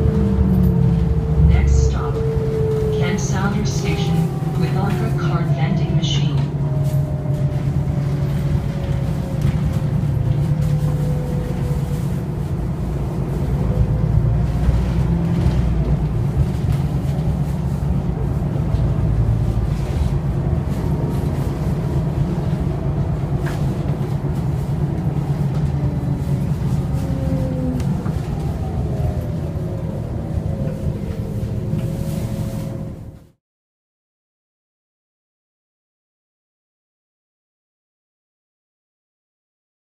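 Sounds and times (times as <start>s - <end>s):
bus drivetrain rumble: 0.0s - 33.4s.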